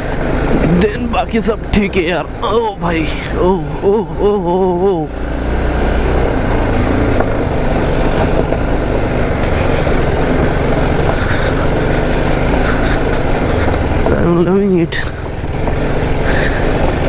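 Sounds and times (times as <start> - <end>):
motorcycle engine under load: 0.0 - 17.0
steady rush of noise: 0.0 - 17.0.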